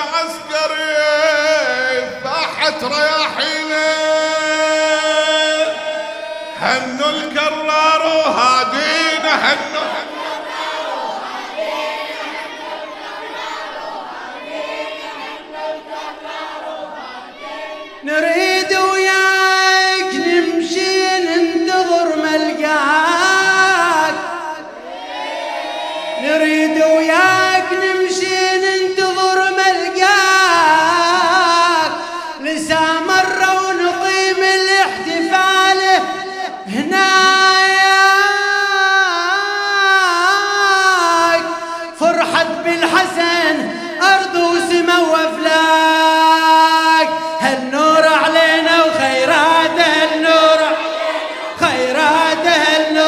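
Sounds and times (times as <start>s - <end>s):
men chanting: 0.0s - 53.0s.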